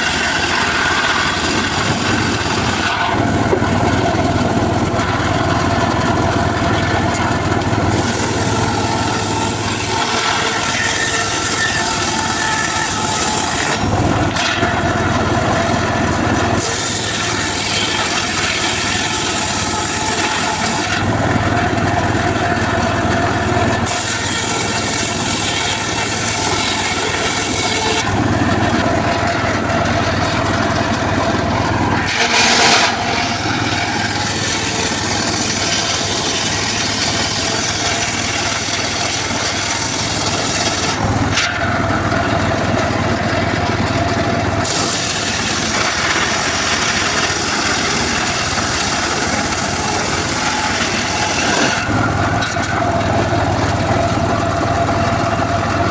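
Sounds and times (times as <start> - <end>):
circular saw engine running: 0.0 - 55.9
saw cutting wood with rasping hiss: 0.0 - 55.9.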